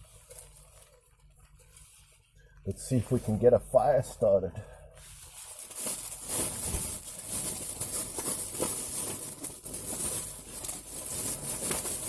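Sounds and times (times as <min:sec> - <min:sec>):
paper and sticks crinkling: 0:00.0 - 0:04.2, 0:05.0 - 0:12.0.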